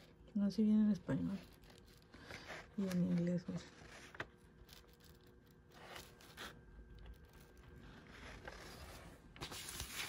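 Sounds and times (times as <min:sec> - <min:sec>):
paper pages rustling: 0:01.1 - 0:10.0.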